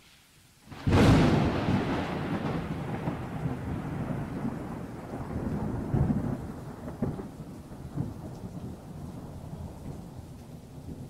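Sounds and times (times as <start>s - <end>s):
steady rain: 0.0s - 11.0s
thunder rumbling: 0.7s - 11.0s.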